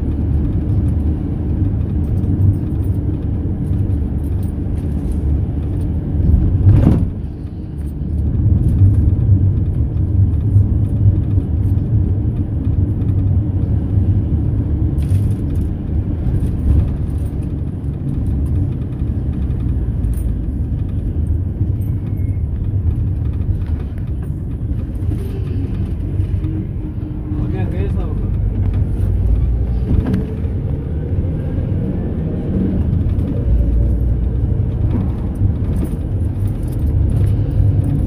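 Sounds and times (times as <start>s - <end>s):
minibus engine and road rumble: 0.0s - 38.0s.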